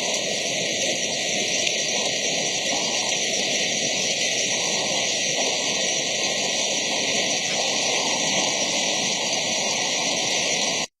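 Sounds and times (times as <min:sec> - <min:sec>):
hail and rain beating down: 0:00.0 - 0:10.9.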